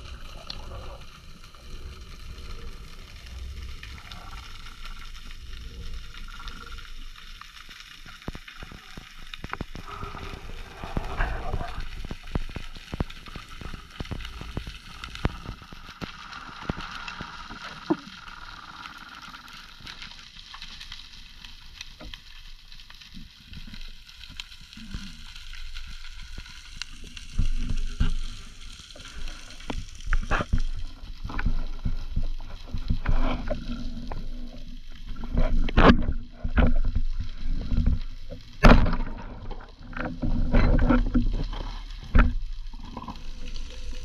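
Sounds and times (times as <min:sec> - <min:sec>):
underwater clicks and crackles: 0:00.0 - 0:44.0.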